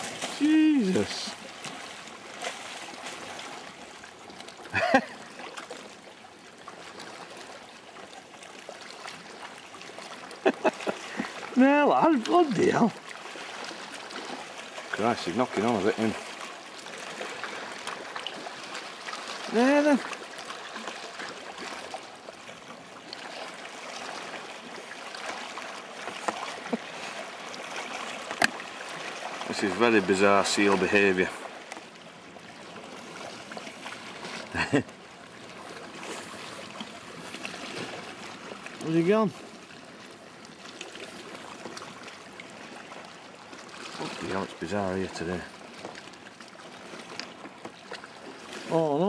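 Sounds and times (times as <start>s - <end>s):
water lapping and trickling: 0.0s - 49.0s.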